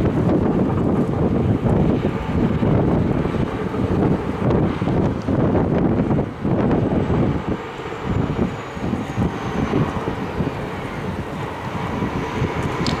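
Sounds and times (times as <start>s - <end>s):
wind buffeting microphone: 0.0s - 13.0s
truck rumbling past: 1.3s - 13.0s.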